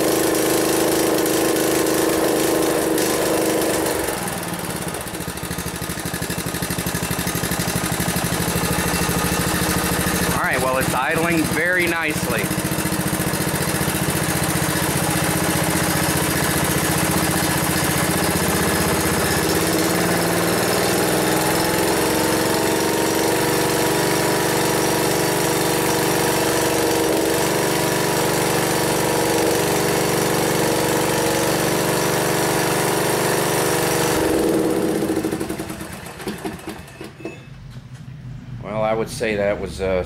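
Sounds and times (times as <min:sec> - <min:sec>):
small engine idling: 0:00.0 - 0:38.3.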